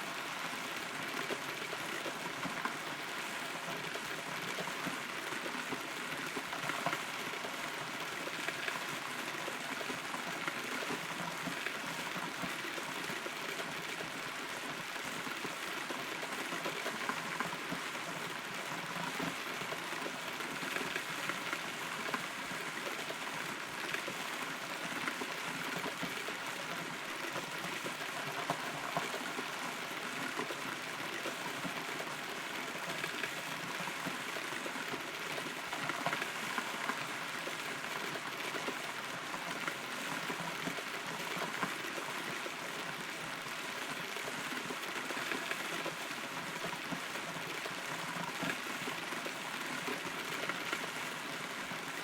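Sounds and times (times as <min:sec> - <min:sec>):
steady rain: 0:00.0 - 0:52.0.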